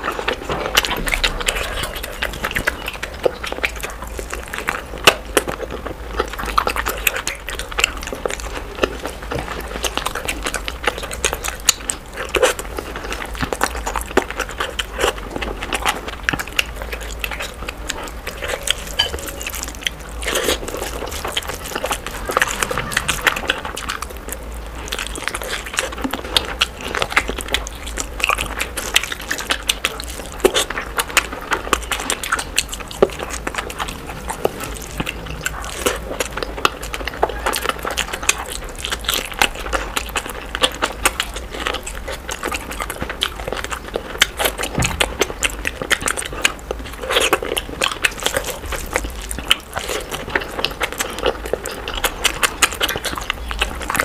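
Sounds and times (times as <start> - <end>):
chewing clicks and crunches: 0.0 - 54.0.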